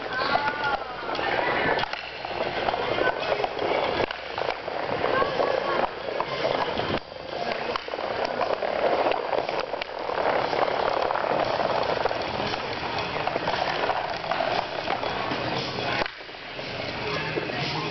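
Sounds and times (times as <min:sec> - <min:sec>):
skate wheels rolling on plastic floor: 0:00.0 - 0:17.9.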